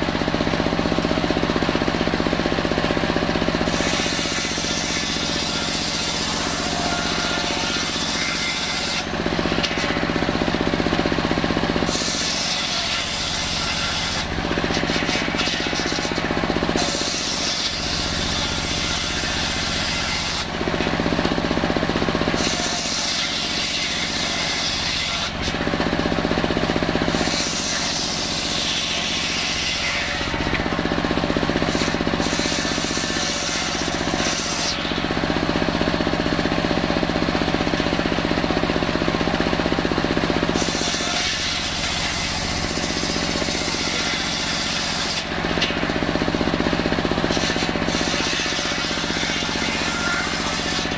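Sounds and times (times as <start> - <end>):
circular saw humming: 0.0 - 50.9.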